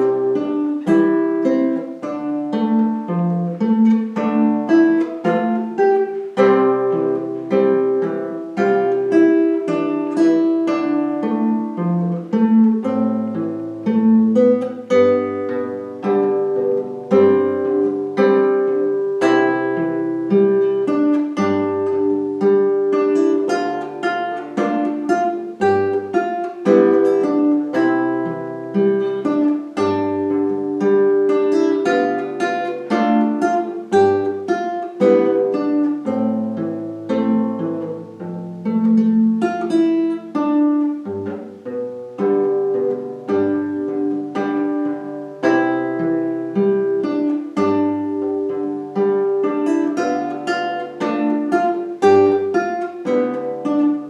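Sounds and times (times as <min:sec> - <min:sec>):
fingerstyle guitar: 0:00.0 - 0:54.0.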